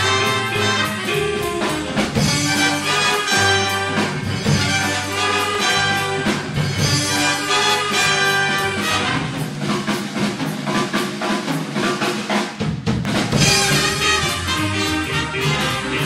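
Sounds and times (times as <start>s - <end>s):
snare and bass drum hits: 0.0s - 16.0s.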